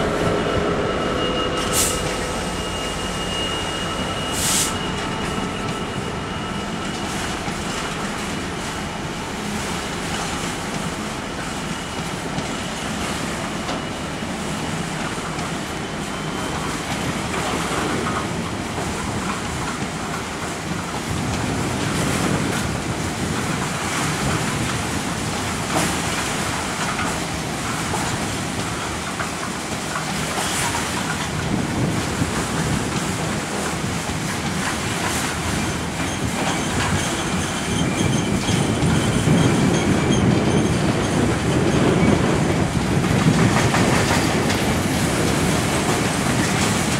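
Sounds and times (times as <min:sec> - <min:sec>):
train rolling on track: 0:00.0 - 0:46.9.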